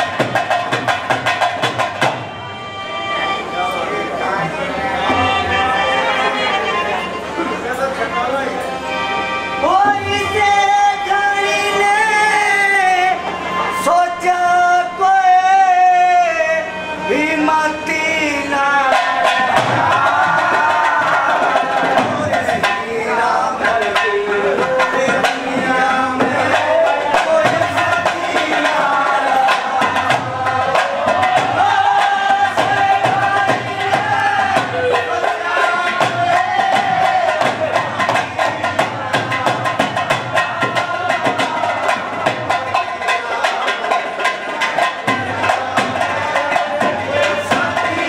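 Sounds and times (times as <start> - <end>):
dholak drum beat: 0.0 - 3.4, 4.4 - 6.8, 8.8 - 48.0
harmonium folk melody: 0.0 - 48.0.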